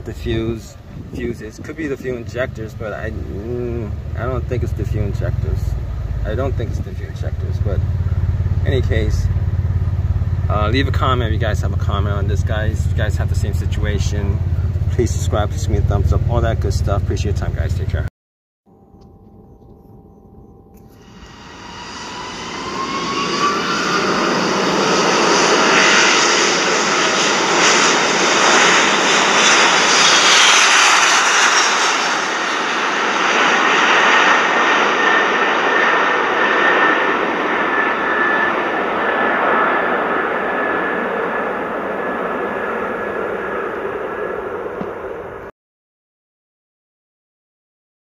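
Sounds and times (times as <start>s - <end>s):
engine with high whine: 0.0s - 18.1s, 18.7s - 45.5s.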